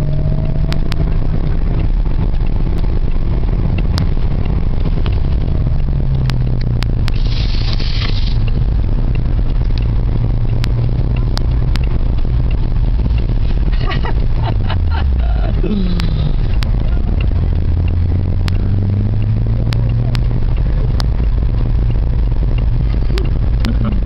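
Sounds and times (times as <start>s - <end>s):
car engine running: 0.0s - 24.0s
road noise: 0.0s - 24.0s.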